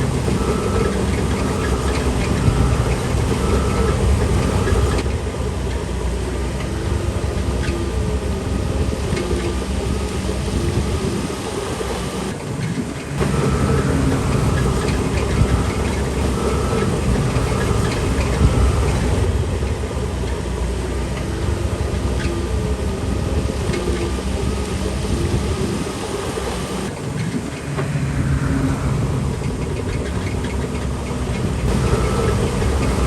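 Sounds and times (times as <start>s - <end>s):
bulldozer diesel engine running: 0.0s - 33.0s
machine clanking: 0.0s - 33.0s.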